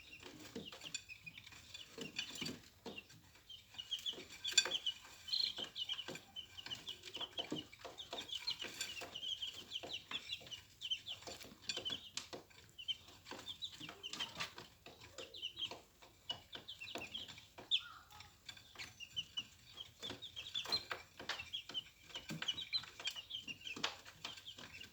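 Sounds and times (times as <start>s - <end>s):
chicks peeping: 0.0s - 24.9s.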